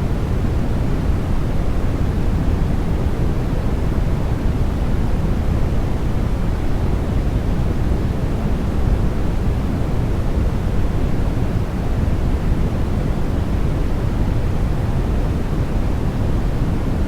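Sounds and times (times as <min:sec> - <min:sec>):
white noise hiss: 0:00.0 - 0:17.0.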